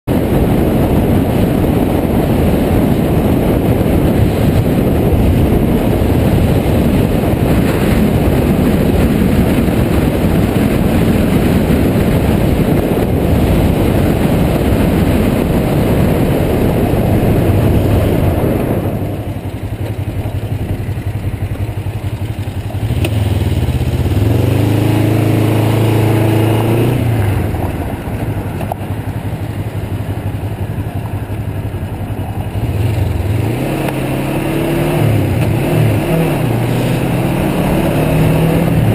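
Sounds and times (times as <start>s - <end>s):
motorcycle engine running: 0.1s - 38.9s
wind rushing over camera: 0.1s - 38.9s.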